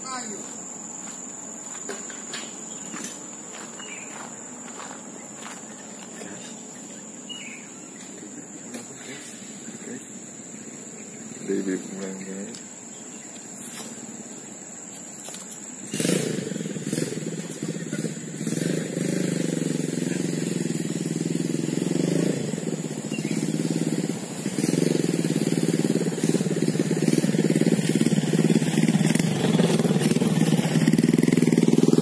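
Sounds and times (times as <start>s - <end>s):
motorcycle engine revving: 1.9s - 32.0s.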